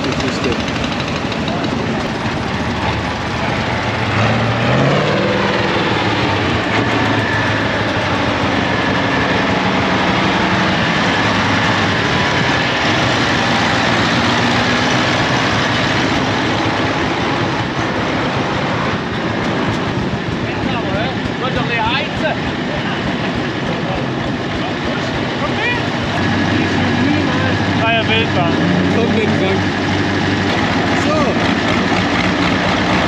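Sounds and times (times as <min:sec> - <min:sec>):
tractor engine driving past: 0:00.0 - 0:33.0.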